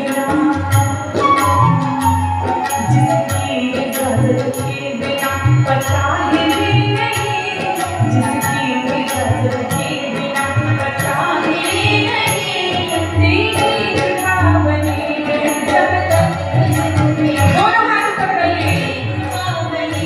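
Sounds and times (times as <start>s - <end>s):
harmonium: 0.0s - 20.0s
tabla deep strokes: 0.0s - 20.0s
women singing: 0.0s - 20.0s.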